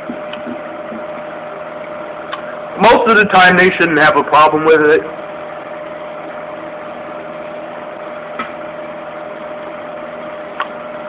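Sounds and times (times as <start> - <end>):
fan heater whirring: 0.0 - 11.0.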